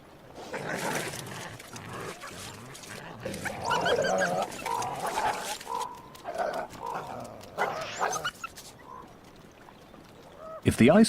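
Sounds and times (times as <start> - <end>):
coyotes whining and yipping: 0.4 - 10.7.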